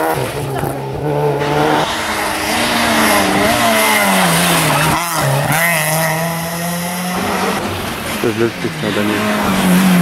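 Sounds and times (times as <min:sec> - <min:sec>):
rally car engines at high revs: 0:00.0 - 0:10.0.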